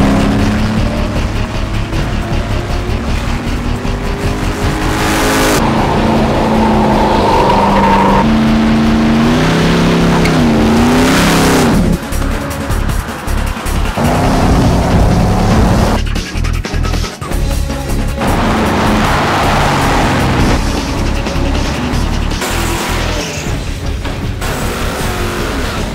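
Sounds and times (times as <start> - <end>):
car engine revving: 0.0 - 17.0, 17.8 - 25.9
tires squealing: 0.0 - 17.0, 18.2 - 25.9
background music: 0.0 - 25.9.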